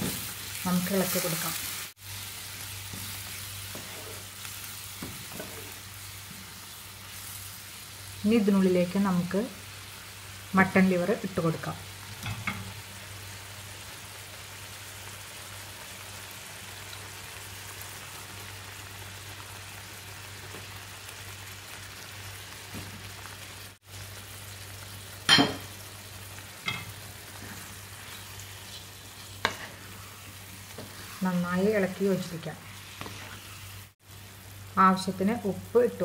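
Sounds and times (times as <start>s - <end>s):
gravy sizzling in a frying pan: 0.0s - 36.0s.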